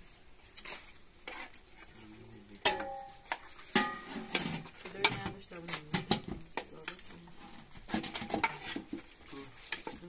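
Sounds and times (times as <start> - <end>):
utensil scraping in pot: 0.0 - 10.0.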